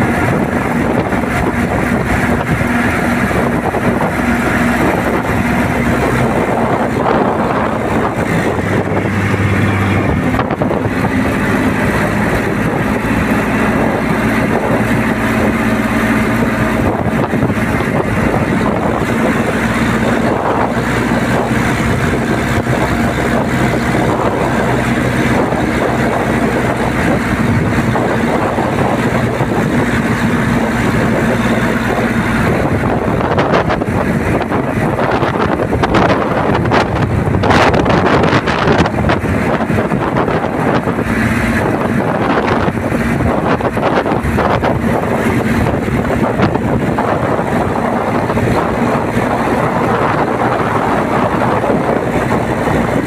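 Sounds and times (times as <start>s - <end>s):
engine running: 0.0s - 53.0s
wind buffeting microphone: 0.0s - 53.0s.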